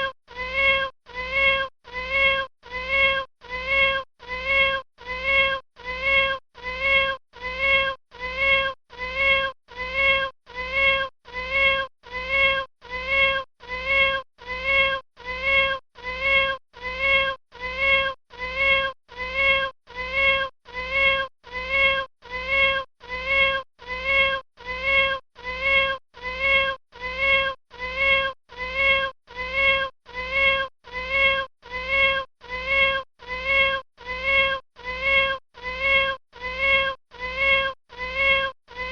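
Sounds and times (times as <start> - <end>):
kitten meowing: 0.0 - 38.9.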